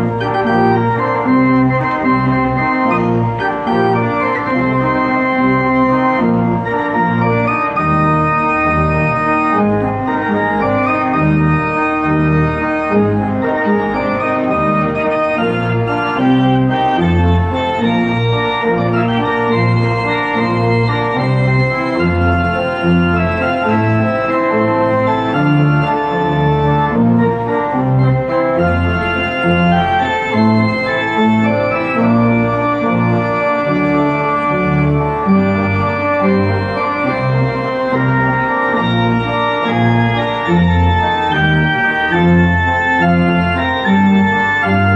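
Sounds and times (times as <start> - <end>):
church organ playing: 0.0 - 44.9.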